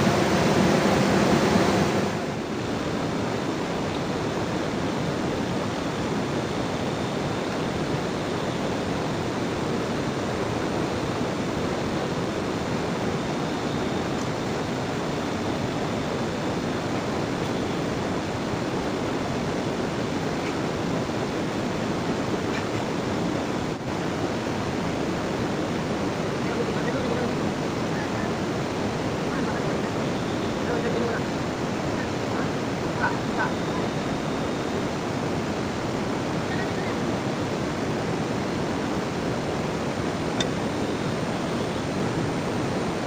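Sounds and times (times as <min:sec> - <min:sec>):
rushing water: 0:00.0 - 0:43.0.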